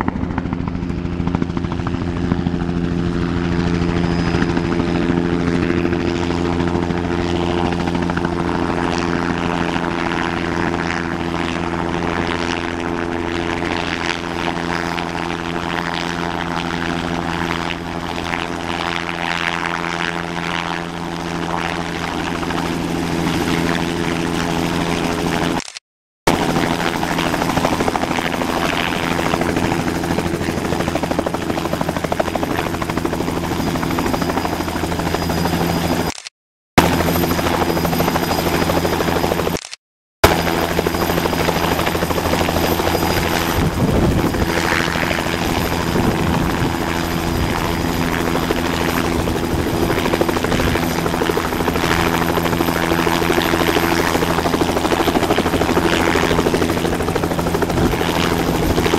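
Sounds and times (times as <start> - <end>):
helicopter rotor and turbine: 0.0 - 58.9.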